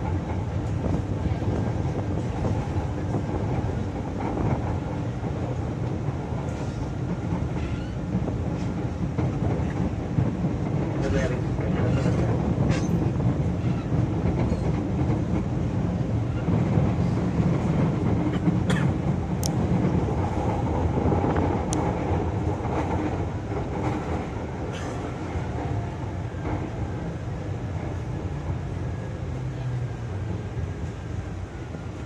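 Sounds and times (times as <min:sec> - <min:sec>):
train cabin rumble: 0:00.0 - 0:32.0.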